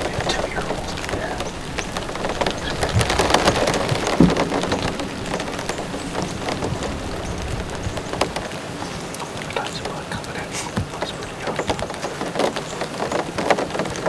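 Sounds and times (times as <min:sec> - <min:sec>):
rain pattering on a blind: 0:00.0 - 0:14.0.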